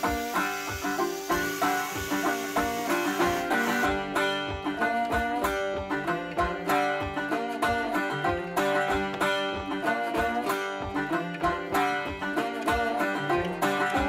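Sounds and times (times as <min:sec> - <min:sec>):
upbeat banjo tune: 0:00.0 - 0:14.0.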